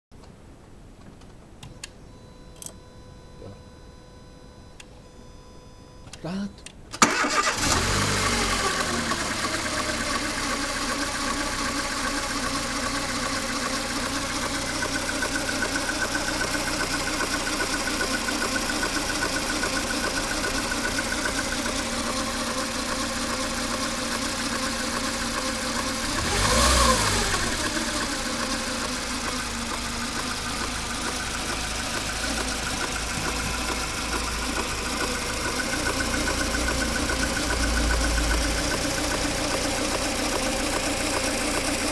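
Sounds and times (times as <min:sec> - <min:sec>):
car engine idling roughly: 0:07.0 - 0:41.9
engine revving: 0:07.0 - 0:41.9.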